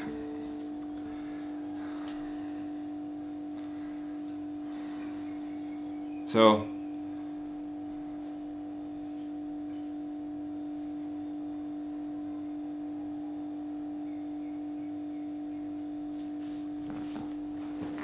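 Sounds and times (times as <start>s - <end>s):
low ringing drone tone: 0.0s - 16.2s.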